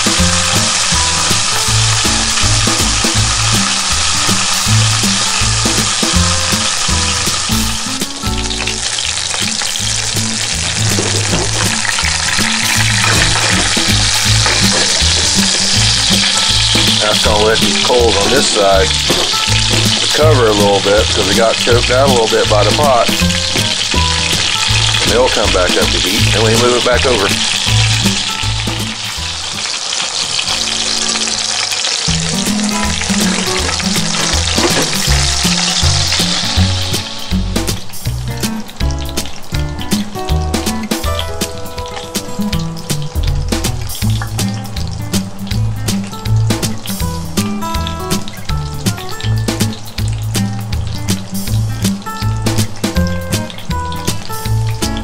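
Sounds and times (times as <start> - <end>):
background music: 0.0 - 55.0
meat sizzling in hot oil: 0.0 - 55.0.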